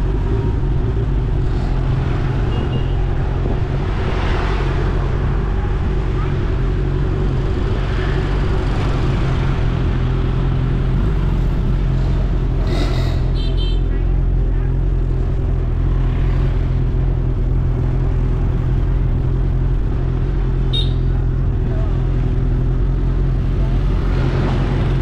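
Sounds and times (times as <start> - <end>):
road rumble: 0.0 - 25.0
vehicle engine running: 0.0 - 25.0.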